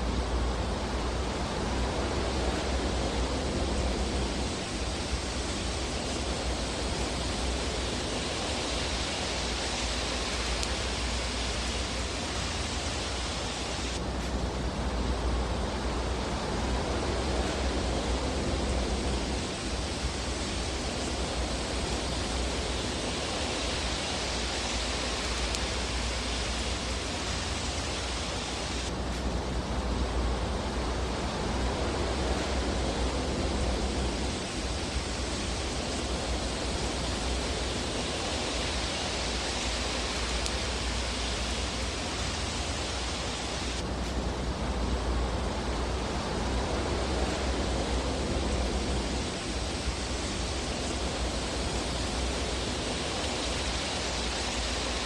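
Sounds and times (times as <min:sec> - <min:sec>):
fireplace fire hissing and crackling: 0:00.0 - 0:55.0.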